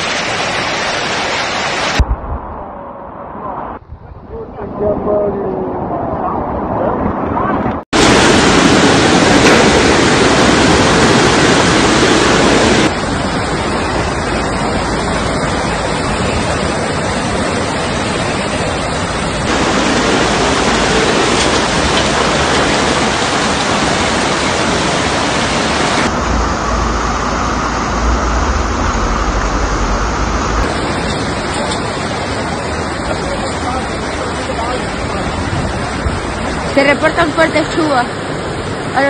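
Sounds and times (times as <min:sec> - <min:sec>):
floodwater rushing: 0:00.0 - 0:02.9, 0:04.8 - 0:39.0
heavy rain: 0:00.0 - 0:03.8, 0:07.8 - 0:39.0.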